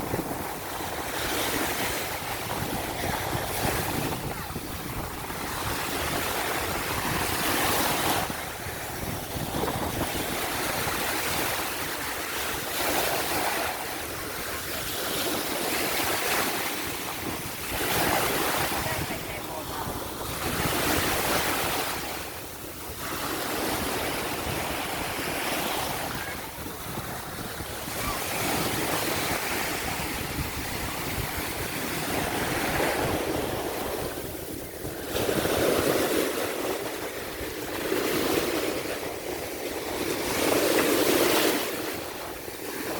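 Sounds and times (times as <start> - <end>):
ocean waves breaking on shore: 0.0 - 42.9.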